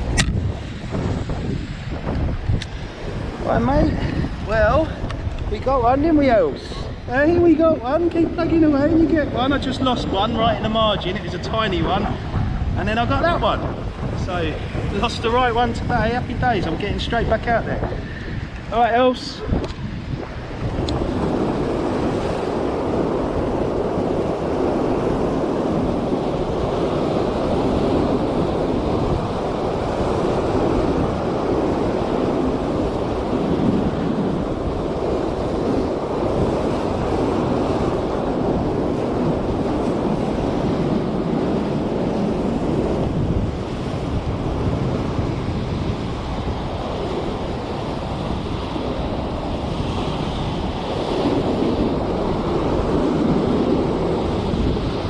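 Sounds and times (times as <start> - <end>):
surf breaking over rocks: 0.0 - 55.0
wind buffeting microphone: 0.0 - 55.0.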